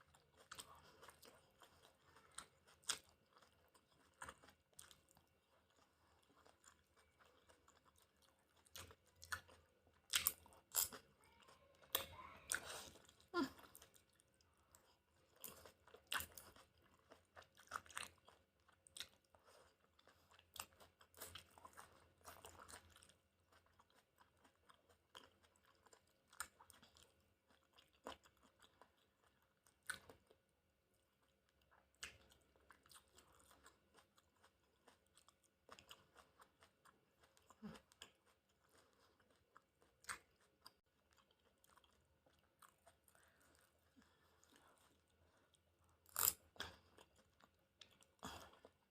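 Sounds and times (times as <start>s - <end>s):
chewing with crunchy clicks: 0.0s - 48.9s.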